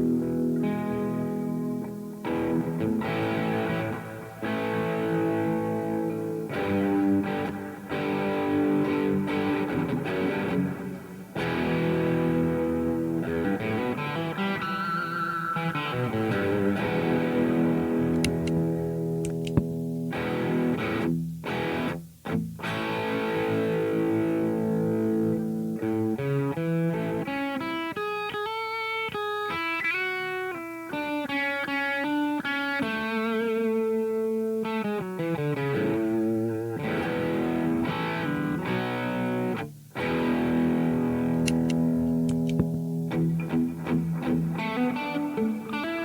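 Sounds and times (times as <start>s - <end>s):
distorted electric guitar chords: 0.0s - 46.0s.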